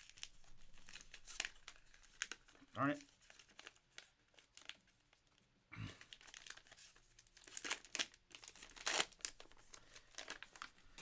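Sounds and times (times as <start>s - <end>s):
plastic packaging crinkling: 0.0s - 5.2s, 6.0s - 11.0s.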